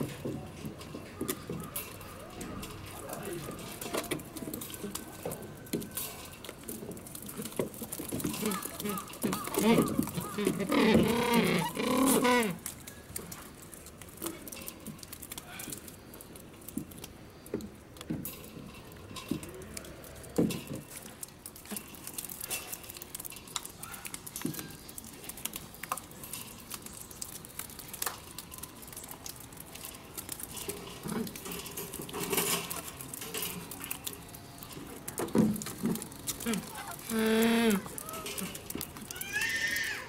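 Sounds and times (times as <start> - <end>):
penguin feet tapping and clicking: 3.5 - 18.4, 19.2 - 39.9.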